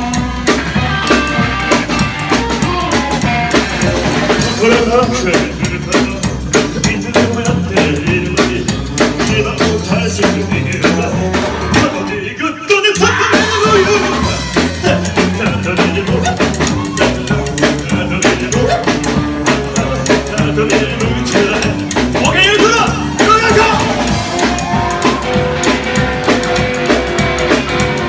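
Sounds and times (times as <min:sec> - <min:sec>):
drums: 0:00.0 - 0:28.0
rockabilly band playing live: 0:00.0 - 0:28.0
upright bass: 0:00.0 - 0:28.0.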